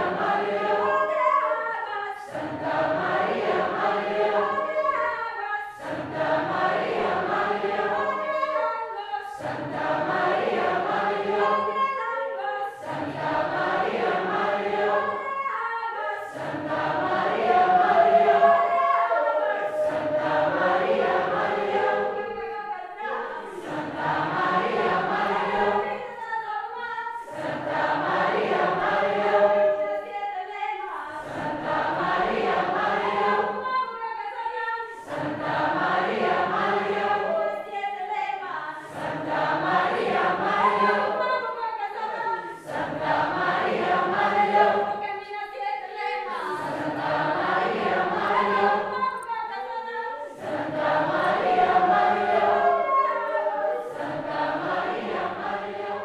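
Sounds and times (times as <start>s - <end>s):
group singing: 0.0s - 56.0s.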